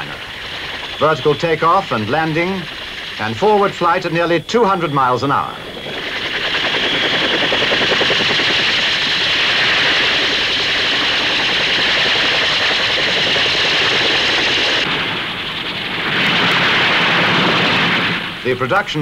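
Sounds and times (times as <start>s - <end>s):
helicopter rotor and engine noise: 0.0s - 19.0s.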